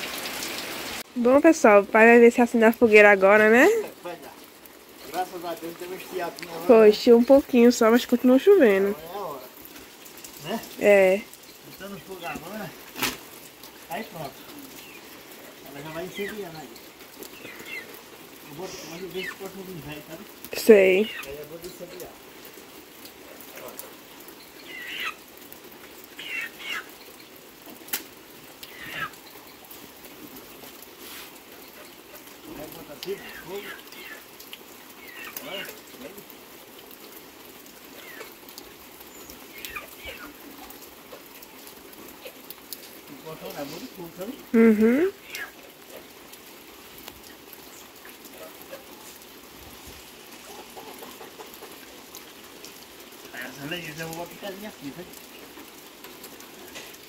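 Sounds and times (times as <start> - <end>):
light rain hiss: 0.0 - 57.0.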